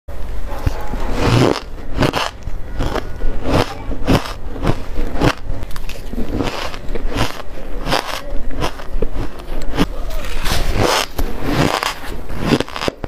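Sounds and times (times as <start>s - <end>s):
person chewing shaved ice: 0.6s - 13.0s.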